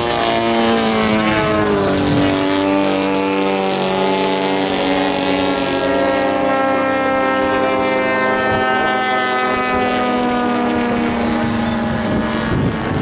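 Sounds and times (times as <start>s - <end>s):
model airplane engine and propeller: 0.0s - 13.0s.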